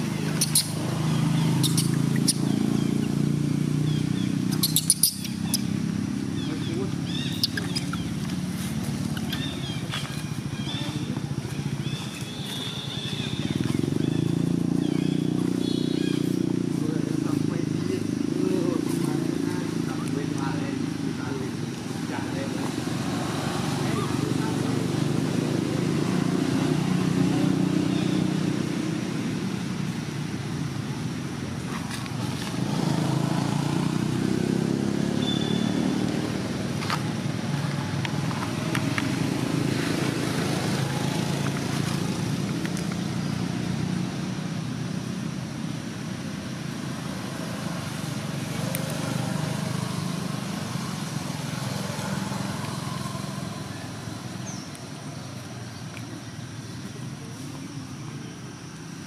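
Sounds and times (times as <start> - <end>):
vehicle engines humming: 0.0 - 59.0.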